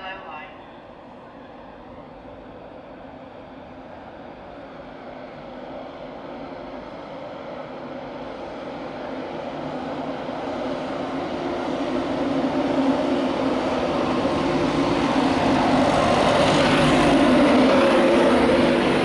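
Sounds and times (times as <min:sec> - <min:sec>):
electric locomotive hum: 0:00.0 - 0:19.0
wheels rushing on rail: 0:00.0 - 0:19.0.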